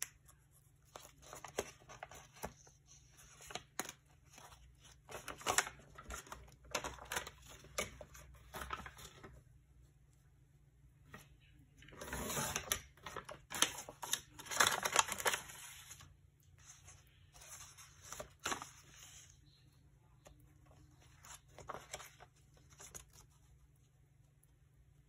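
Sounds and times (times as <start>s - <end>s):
paper rustling and crinkling: 0.0s - 9.4s, 11.1s - 19.5s, 20.3s - 23.9s.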